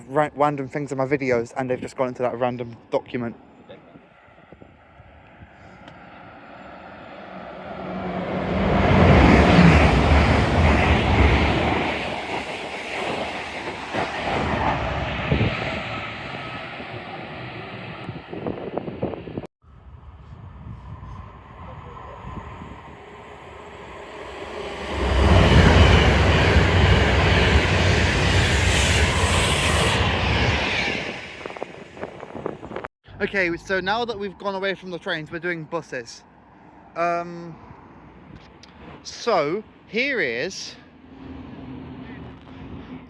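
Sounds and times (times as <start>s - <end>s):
train passing: 4.0s - 43.0s.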